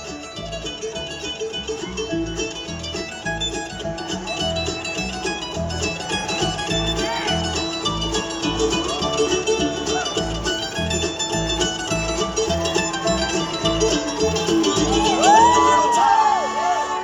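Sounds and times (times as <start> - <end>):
live band playing instrumental: 0.0 - 17.0
sliding string notes: 0.0 - 17.0.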